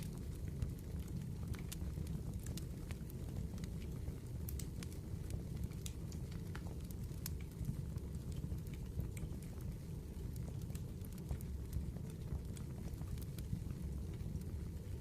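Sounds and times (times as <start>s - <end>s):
firewood crackling and popping: 0.0s - 15.0s
low fire rumble: 0.0s - 15.0s.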